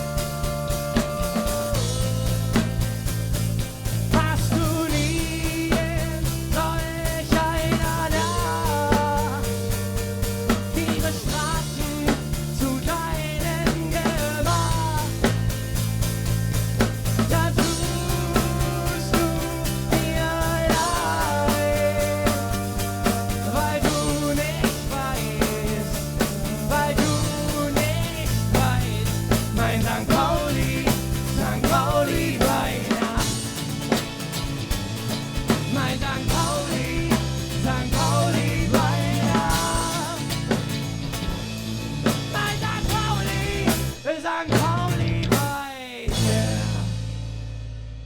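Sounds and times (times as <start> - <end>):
drum kit beat: 0.0 - 47.8
bass line: 0.0 - 48.0.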